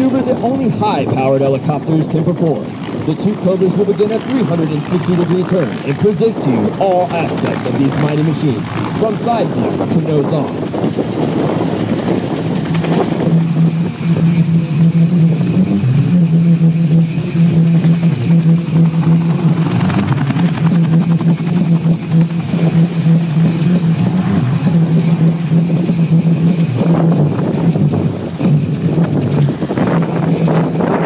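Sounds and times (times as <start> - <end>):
helicopter rotor and turbine drone: 0.0 - 31.0.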